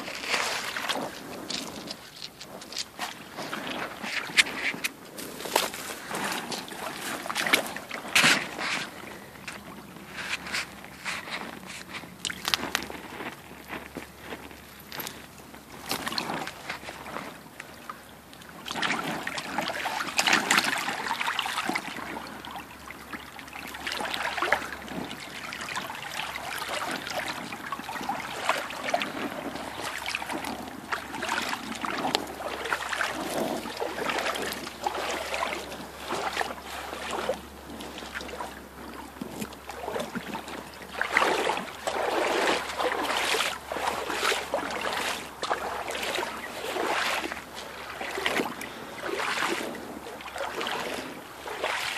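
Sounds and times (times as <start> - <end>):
creek water sloshing and splashing: 0.0 - 51.9.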